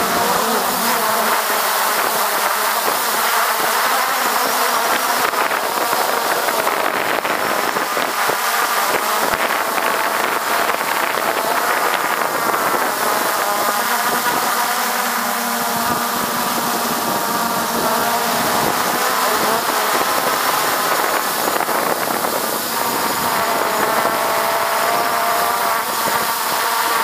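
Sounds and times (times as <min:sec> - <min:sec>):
drone propellers whirring: 0:00.0 - 0:27.0.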